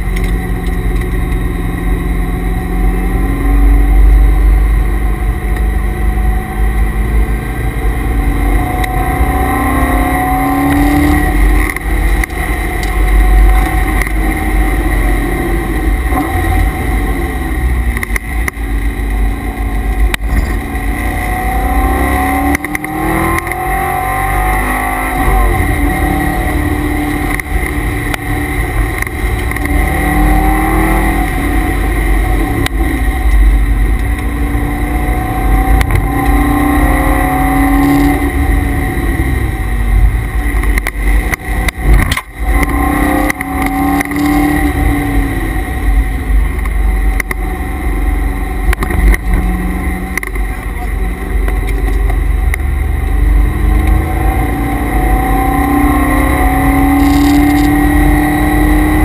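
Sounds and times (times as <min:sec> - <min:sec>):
car engine revving under acceleration: 0:00.0 - 0:59.0
steady transmission whine: 0:00.0 - 0:59.0.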